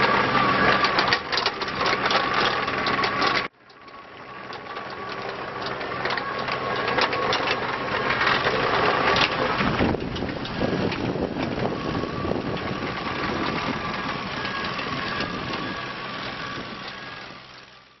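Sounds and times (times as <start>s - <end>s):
diesel engine running with whine: 0.0s - 18.0s.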